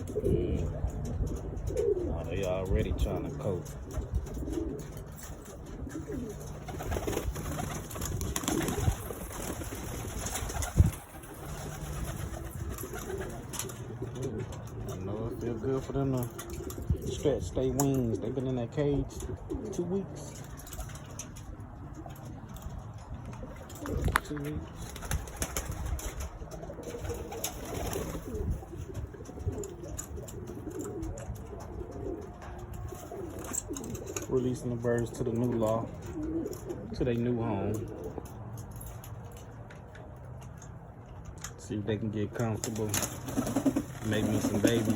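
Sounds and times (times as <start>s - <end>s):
pigeons cooing: 0.0s - 39.5s, 42.6s - 44.9s.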